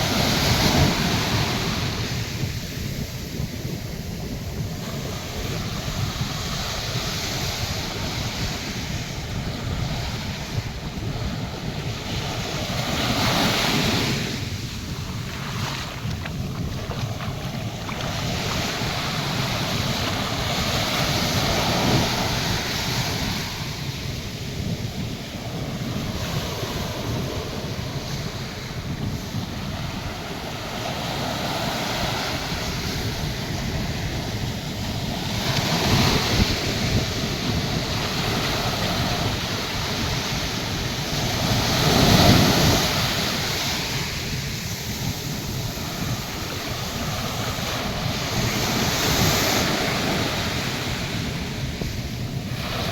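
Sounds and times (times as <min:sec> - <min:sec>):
surf waves breaking on beach: 0:00.0 - 0:52.9
wind buffeting microphone: 0:00.0 - 0:52.9.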